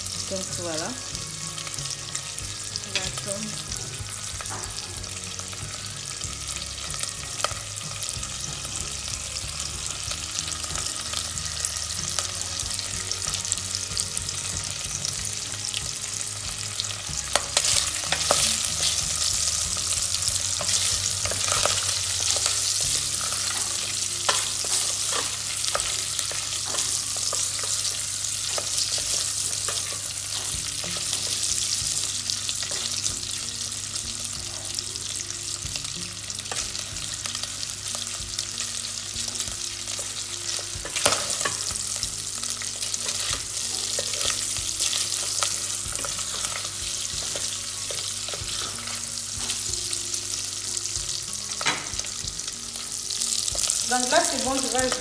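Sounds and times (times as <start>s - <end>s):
bacon sizzling in oil: 0.0s - 55.0s.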